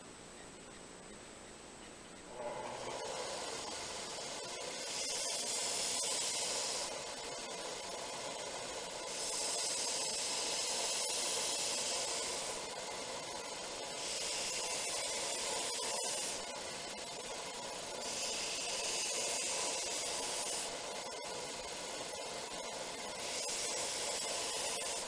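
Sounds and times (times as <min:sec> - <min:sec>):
belt grinder running: 0:02.4 - 0:25.0
knife blade hissing on belt: 0:02.4 - 0:25.0.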